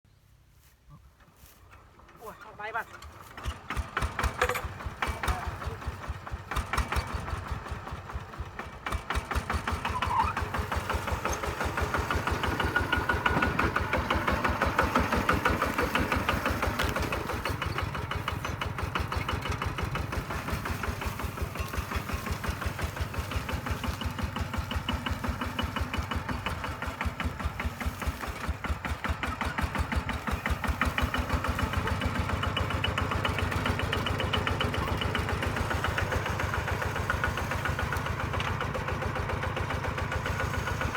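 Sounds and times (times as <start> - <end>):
diesel engine knocking: 1.8 - 40.9.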